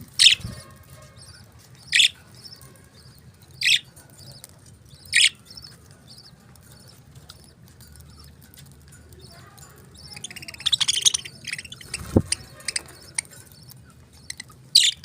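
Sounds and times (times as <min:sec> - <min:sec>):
budgerigars chirping: 0:00.2 - 0:08.4, 0:09.9 - 0:15.0.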